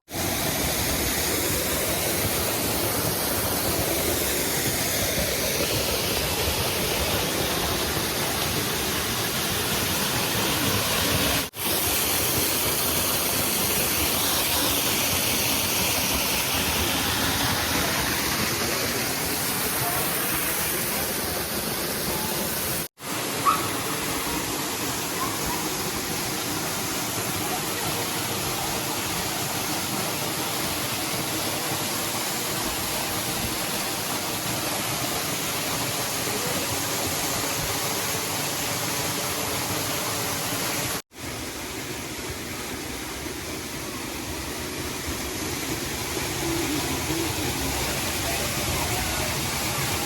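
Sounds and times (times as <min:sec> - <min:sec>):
waterfall rushing: 0:00.1 - 0:50.0.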